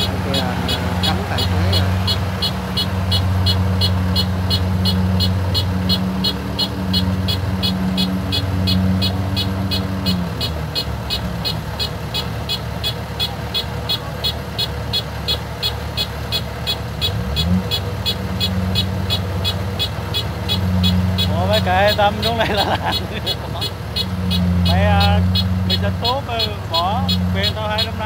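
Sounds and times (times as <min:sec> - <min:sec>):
combine harvester engine: 0:00.0 - 0:28.0
fast regular machinery ticking: 0:00.0 - 0:28.0.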